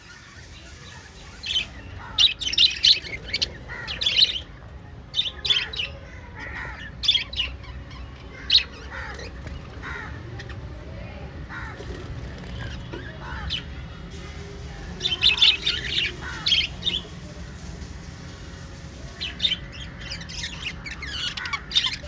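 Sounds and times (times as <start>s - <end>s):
lovebirds chirping and squawking: 0.0s - 22.0s.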